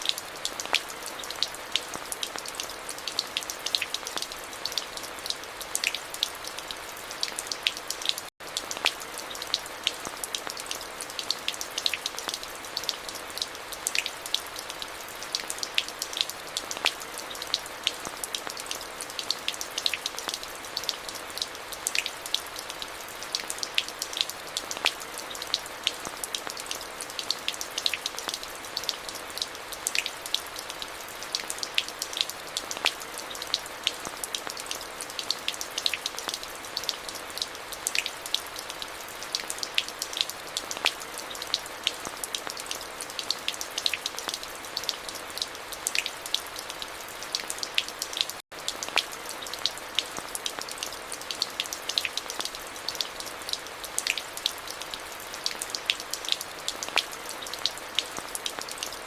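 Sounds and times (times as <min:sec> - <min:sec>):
rain drops on hard surface: 0:00.0 - 0:59.0.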